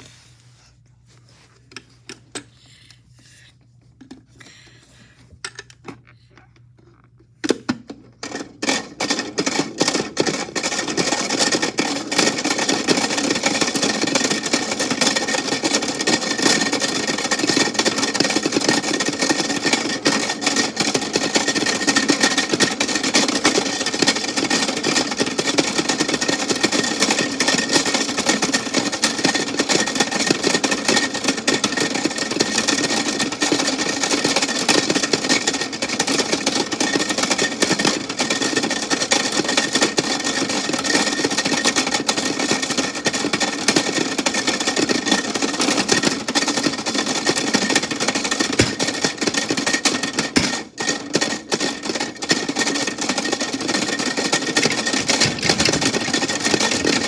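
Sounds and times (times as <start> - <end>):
toy washing machine whirring rattle: 4.1 - 6.3, 7.4 - 57.0.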